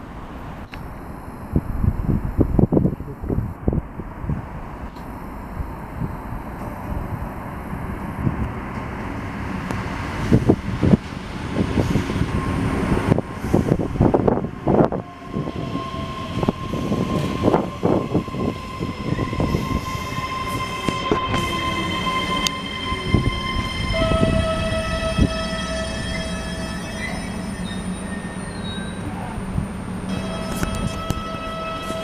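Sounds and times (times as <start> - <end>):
steady whining braking tones: 0.5 - 32.0.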